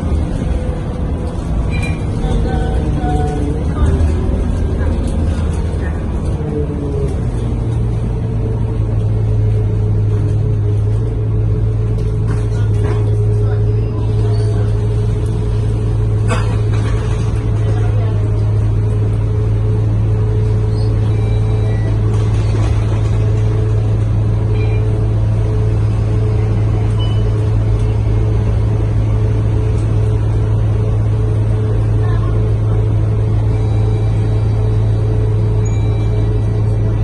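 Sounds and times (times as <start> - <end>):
bus diesel engine droning: 0.0 - 37.0.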